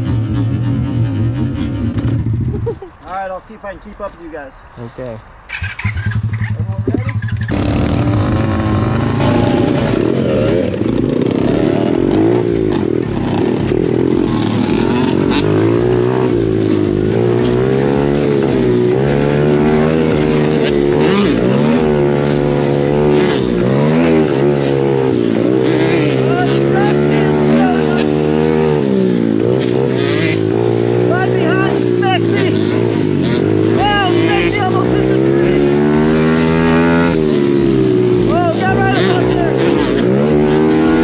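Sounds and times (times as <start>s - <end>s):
motorbike engine revving: 0.0s - 2.7s, 4.9s - 41.0s.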